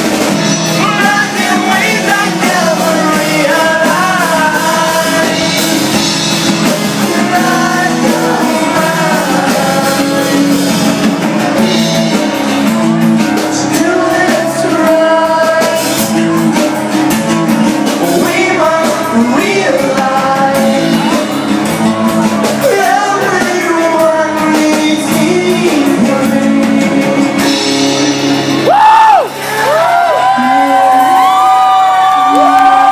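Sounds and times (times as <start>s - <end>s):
man singing: 0.0s - 28.7s, 32.1s - 32.9s
acoustic guitar: 0.0s - 29.6s
bass guitar: 0.0s - 32.9s.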